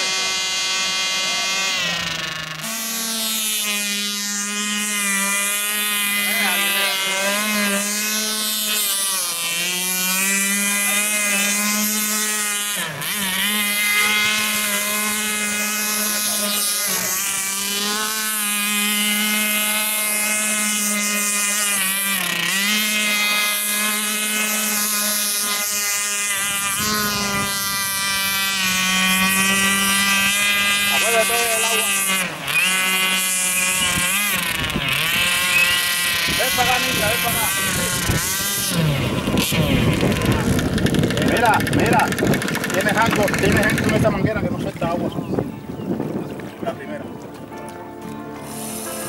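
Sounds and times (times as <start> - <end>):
model speedboat engine whine: 0.0 - 49.0.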